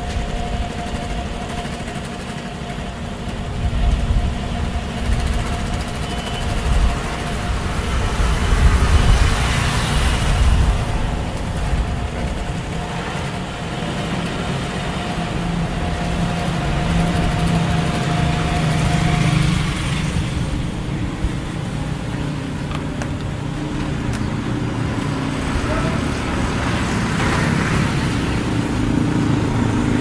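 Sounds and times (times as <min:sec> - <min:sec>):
traffic noise rumble: 0:00.0 - 0:30.0.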